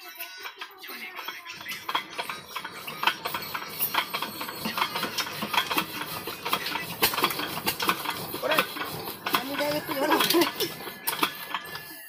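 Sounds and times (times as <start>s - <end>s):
diesel engine hand cranked: 0.1s - 12.0s
metallic clicks and knocks: 0.4s - 11.9s.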